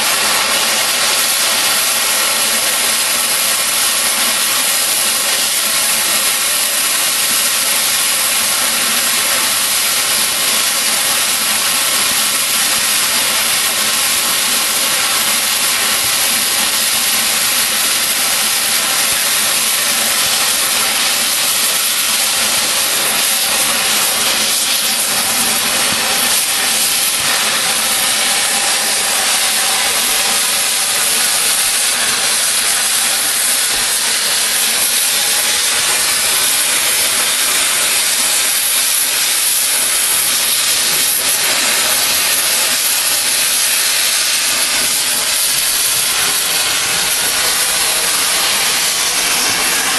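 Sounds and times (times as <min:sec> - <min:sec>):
cutting torch hissing: 0:00.0 - 0:49.9.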